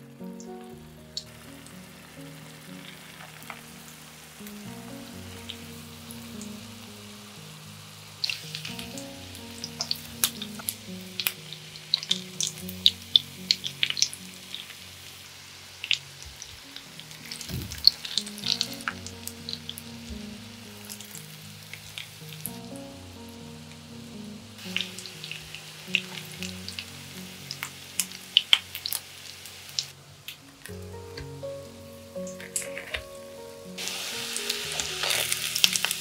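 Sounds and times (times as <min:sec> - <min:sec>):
oil sizzling in a pan: 0:00.0 - 0:31.0, 0:31.6 - 0:36.0
sharp crackles and pops: 0:00.3 - 0:23.0, 0:24.6 - 0:31.3, 0:32.2 - 0:33.2, 0:33.8 - 0:36.0.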